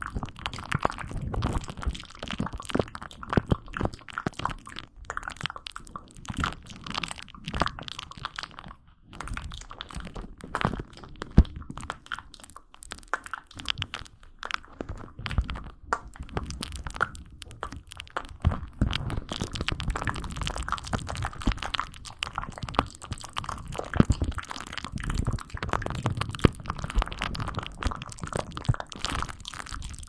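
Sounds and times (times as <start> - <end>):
crunching and crackling: 0.0 - 30.0.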